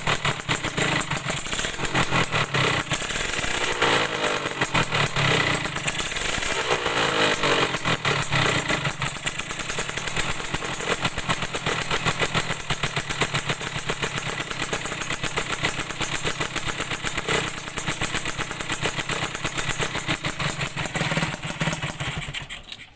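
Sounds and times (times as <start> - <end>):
two-stroke motorcycle engine revving: 0.0 - 22.8.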